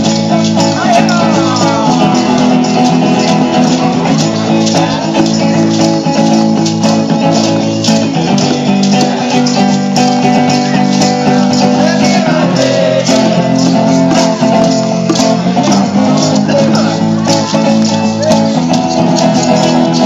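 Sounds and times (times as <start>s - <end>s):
cajon beat: 0.0s - 20.0s
group of voices singing: 0.0s - 20.0s
shaker: 0.0s - 20.0s
strummed acoustic guitar: 0.0s - 20.0s.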